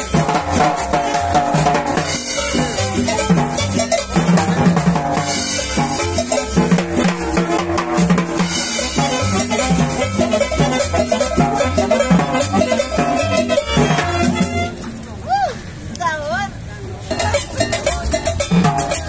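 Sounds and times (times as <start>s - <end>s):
drum kit and cymbals beat: 0.0s - 14.8s, 17.1s - 19.0s
cumbia band playing: 0.0s - 15.2s, 17.0s - 19.0s.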